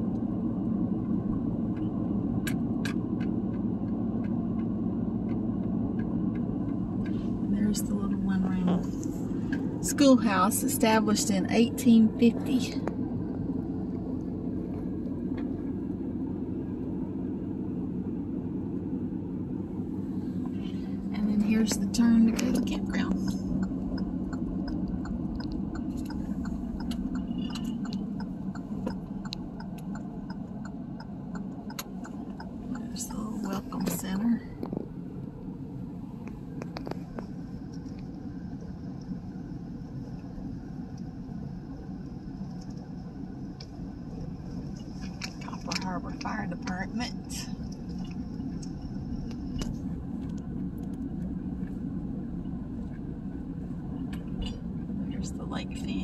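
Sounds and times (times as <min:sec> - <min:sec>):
road and engine hum in cabin: 0:00.0 - 0:56.0
turn signal ticking: 0:00.0 - 0:56.0.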